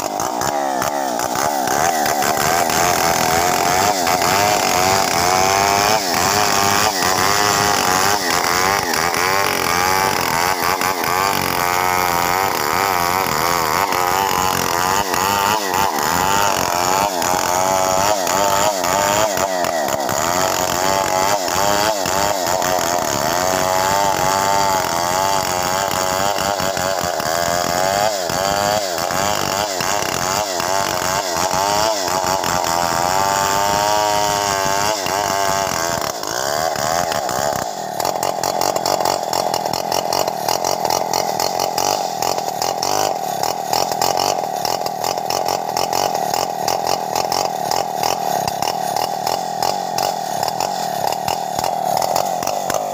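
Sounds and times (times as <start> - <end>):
chainsaw cutting through log: 0.0 - 52.9.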